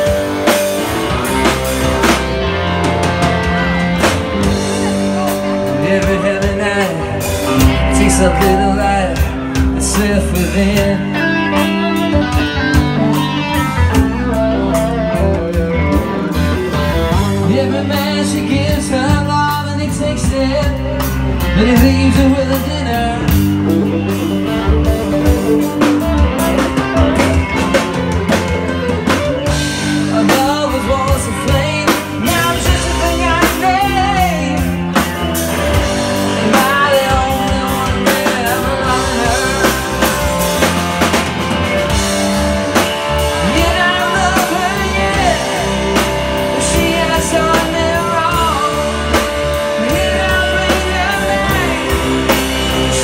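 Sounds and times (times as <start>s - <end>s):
drum kit: 0.0s - 53.0s
electric guitars: 0.0s - 53.0s
person singing: 0.0s - 53.0s.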